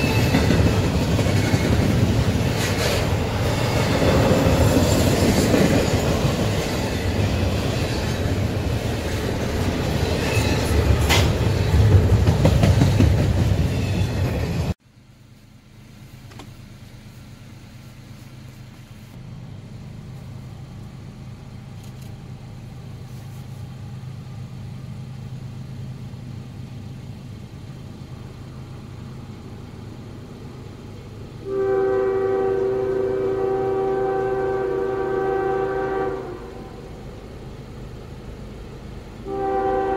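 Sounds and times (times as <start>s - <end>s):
freight train rumbling past: 0.0s - 14.8s, 16.7s - 39.9s.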